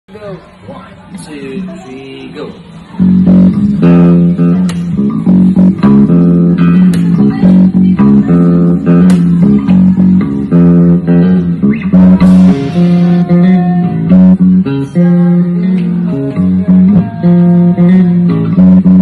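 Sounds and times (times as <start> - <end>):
electric bass guitar: 2.8 - 19.0
acoustic guitar: 3.0 - 19.0.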